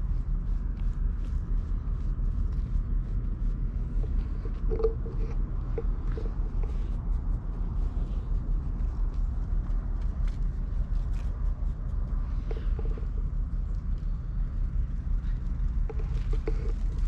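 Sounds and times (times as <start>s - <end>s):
uneven low rumble: 0.0s - 17.0s.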